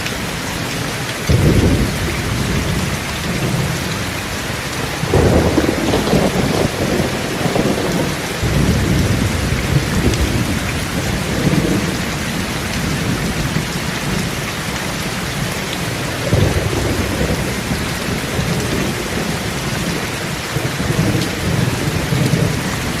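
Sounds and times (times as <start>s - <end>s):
steady rain: 0.0s - 23.0s
rolling thunder: 1.3s - 13.6s, 15.9s - 23.0s.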